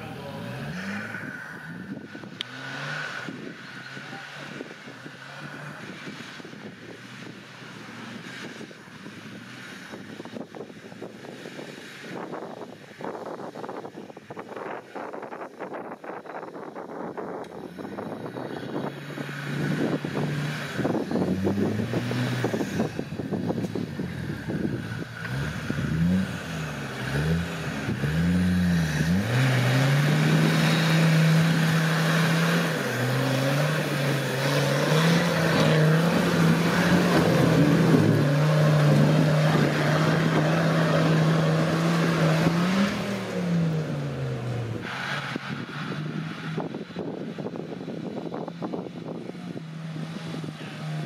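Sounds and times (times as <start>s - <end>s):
off-road engine revving: 0.0s - 51.0s.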